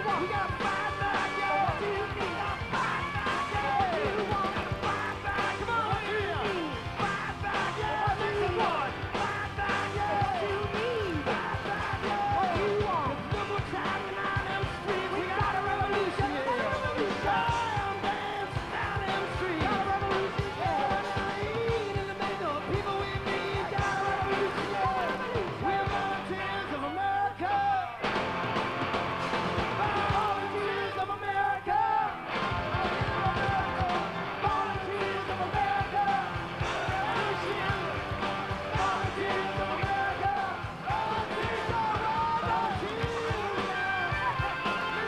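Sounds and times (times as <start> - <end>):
person singing lead vocals: 0.0 - 28.0, 29.6 - 45.0
live rock band: 0.0 - 45.0.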